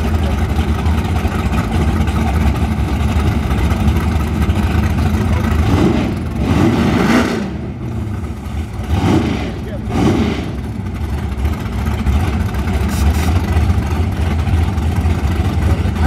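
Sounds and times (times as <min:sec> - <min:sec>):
car engine idling loudly: 0:00.0 - 0:16.0.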